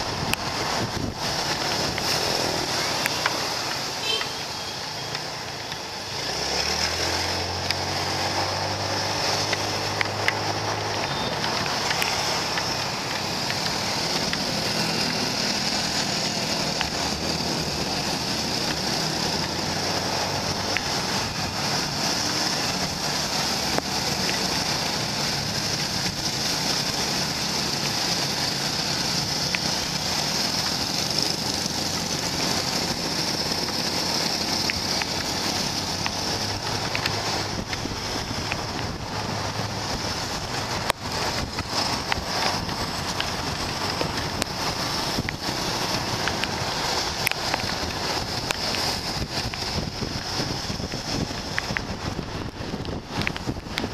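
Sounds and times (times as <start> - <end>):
wind rushing over microphone: 0.0 - 3.7, 6.3 - 53.9
road noise: 0.0 - 53.9.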